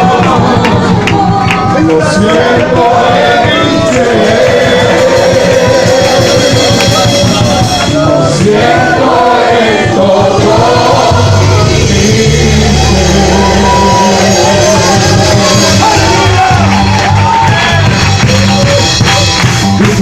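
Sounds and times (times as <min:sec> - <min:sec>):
voices singing praise song: 0:00.0 - 0:17.8
instrumental accompaniment: 0:00.0 - 0:20.0.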